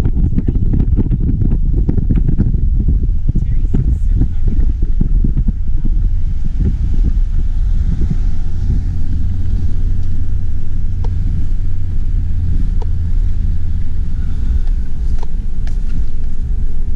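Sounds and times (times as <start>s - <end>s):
car road and engine rumble: 0.0s - 16.9s.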